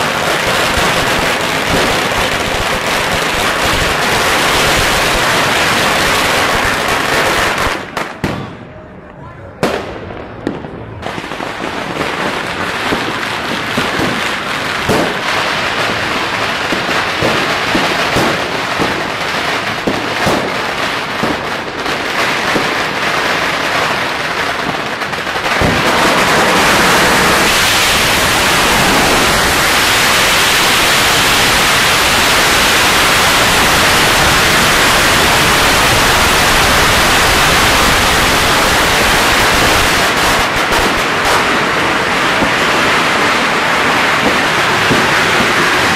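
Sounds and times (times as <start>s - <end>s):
fireworks bangs: 0.0s - 45.9s.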